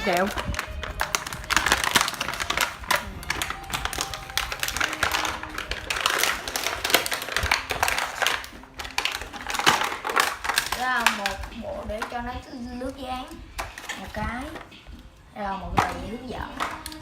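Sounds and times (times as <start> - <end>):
plastic packaging clicks and rustles: 0.0 - 14.9, 15.8 - 17.0.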